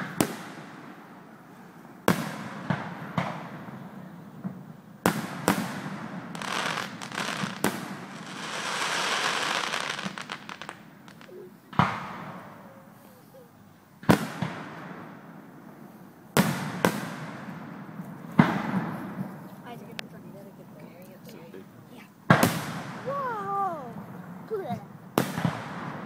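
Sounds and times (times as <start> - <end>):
fireworks bursting with sharp bangs: 0.0 - 13.1, 14.0 - 19.8, 22.2 - 26.0
fireworks crackling hiss: 0.0 - 20.0, 22.3 - 26.0.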